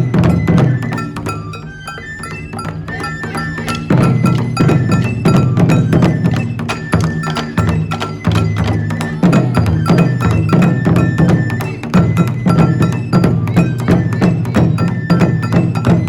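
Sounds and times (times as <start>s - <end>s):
fast percussion strikes: 0.0s - 16.0s.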